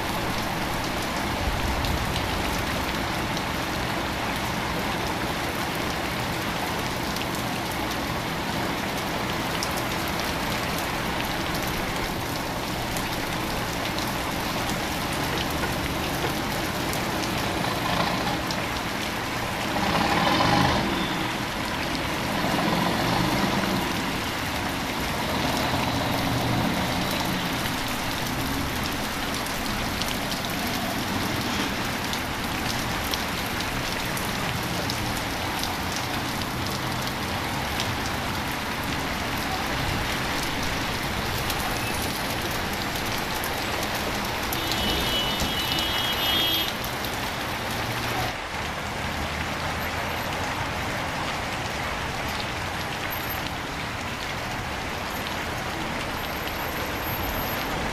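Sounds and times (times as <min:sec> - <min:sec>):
steady rain on wet street: 0:00.0 - 0:57.9
traffic passing through water: 0:00.0 - 0:57.9.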